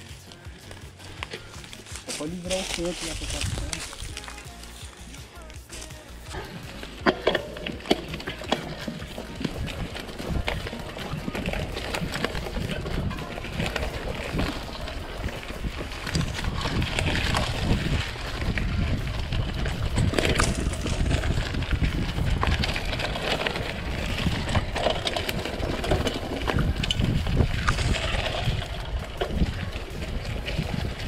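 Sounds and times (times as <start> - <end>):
bike rattles and clicks: 0.0 - 31.0
mountain bike riding rumble: 0.0 - 31.0.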